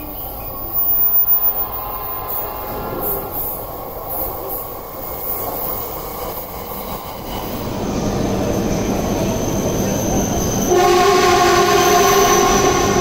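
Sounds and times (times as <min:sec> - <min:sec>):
train wheels rumbling on rails: 0:00.0 - 0:13.0
wheels hissing: 0:00.0 - 0:13.0.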